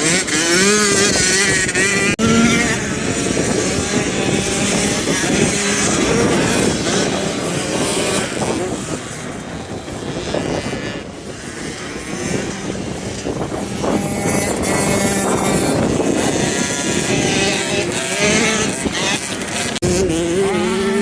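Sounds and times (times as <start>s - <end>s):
motocross engines revving: 0.0s - 21.0s.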